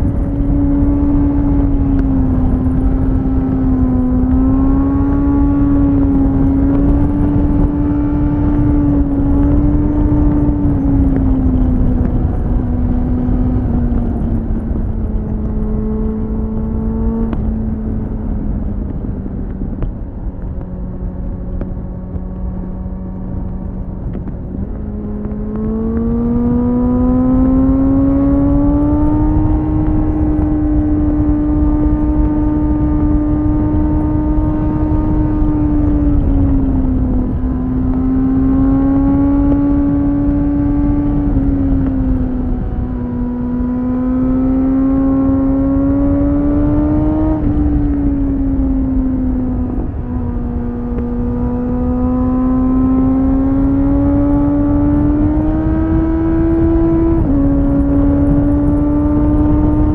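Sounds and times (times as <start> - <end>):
motorcycle engine: 0.0 - 59.9
wind rush on microphone: 0.0 - 59.9.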